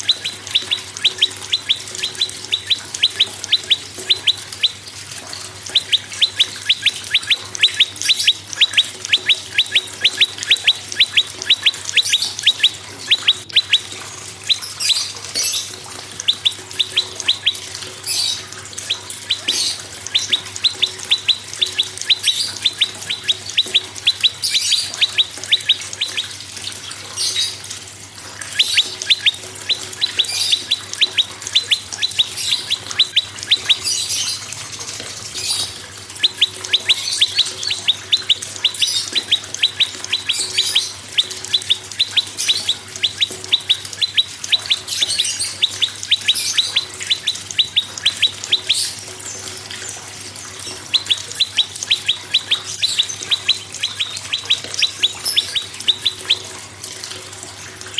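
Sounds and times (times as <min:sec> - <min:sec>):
bird singing sharp chirps: 0:00.0 - 0:04.8, 0:05.7 - 0:26.4, 0:28.4 - 0:34.5, 0:35.3 - 0:49.0, 0:50.5 - 0:56.6.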